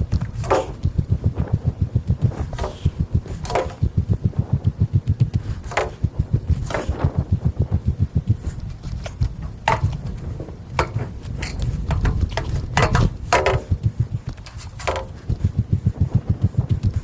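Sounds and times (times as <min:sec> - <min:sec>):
low fluttering rumble: 0:00.0 - 0:17.0.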